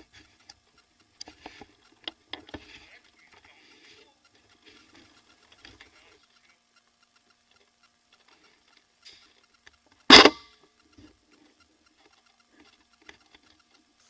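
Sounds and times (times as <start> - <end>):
faint clicks: 0.0 - 14.0.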